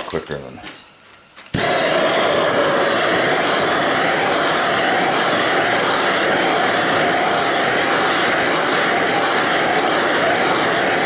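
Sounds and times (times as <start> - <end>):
faint steady whine: 0.0 - 11.0
heat tool rushing noise: 1.5 - 11.0.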